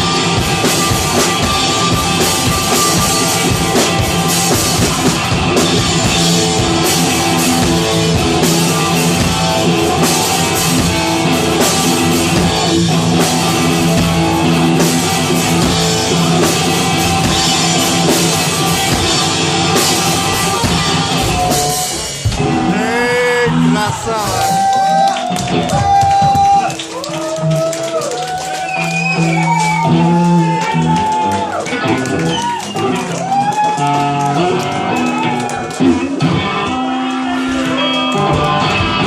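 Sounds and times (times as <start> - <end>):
drum kit: 0.0 - 39.0
electric guitars: 0.0 - 39.0.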